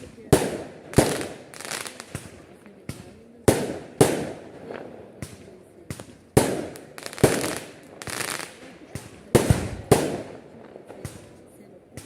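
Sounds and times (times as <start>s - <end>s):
fireworks bangs echoing: 0.0s - 12.0s.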